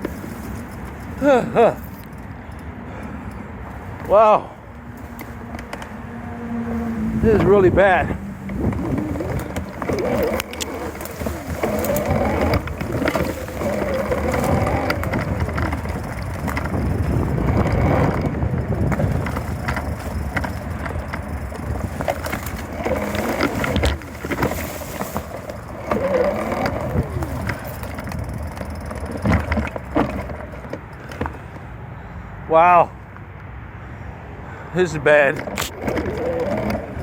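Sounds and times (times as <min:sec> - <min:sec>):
bike tires crunching in mud: 0:00.0 - 0:32.1, 0:34.5 - 0:37.0.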